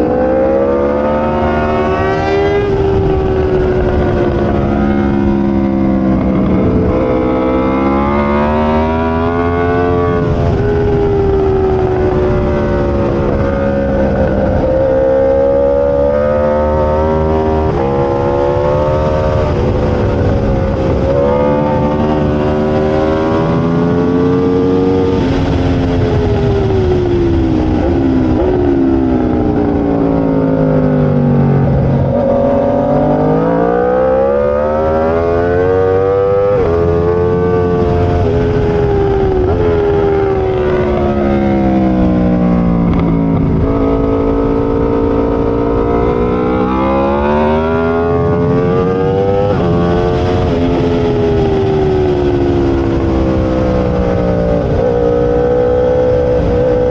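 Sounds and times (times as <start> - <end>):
motorcycle engine revving and shifting: 0.0 - 56.9.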